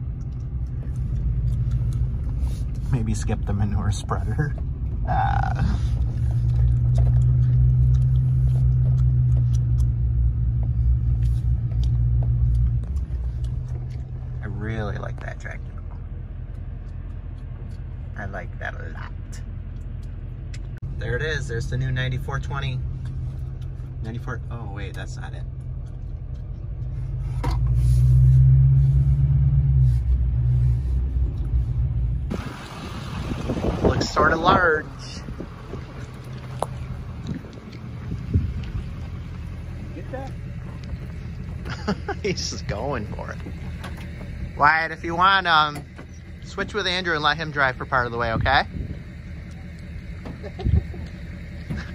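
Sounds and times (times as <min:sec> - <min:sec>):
vehicle engine and tyres drone: 0:00.0 - 0:51.9.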